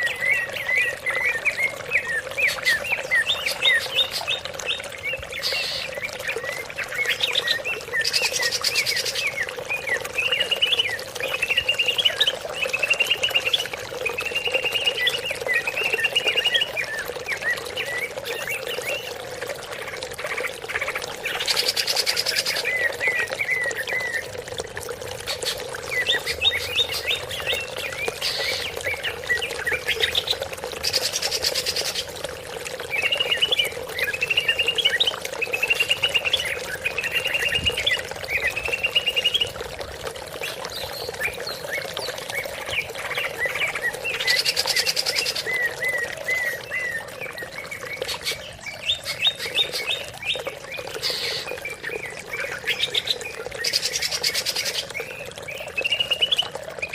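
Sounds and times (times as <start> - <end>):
bird chirping and trilling: 0.0 - 19.2, 19.8 - 24.4, 25.2 - 32.1, 32.8 - 39.6, 40.4 - 56.9.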